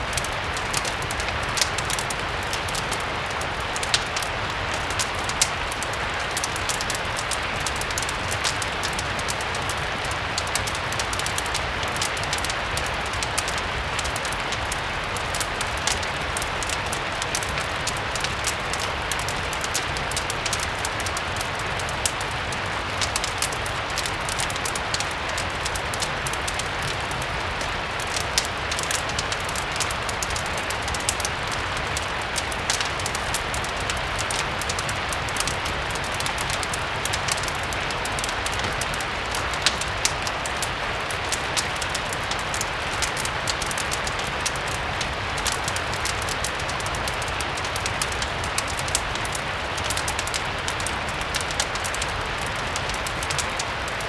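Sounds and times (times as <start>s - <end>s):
fireplace crackling: 0.0s - 54.0s
steady rain: 0.0s - 54.0s.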